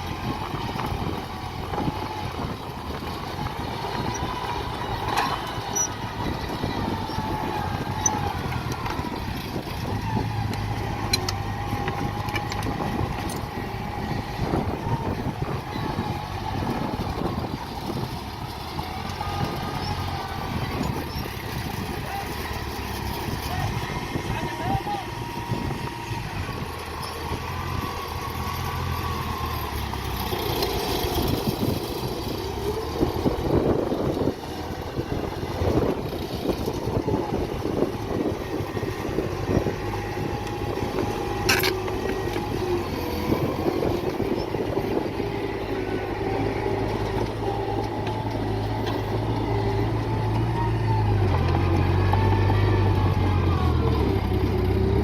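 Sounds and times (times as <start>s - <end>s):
diesel construction machinery running: 0.0s - 55.0s.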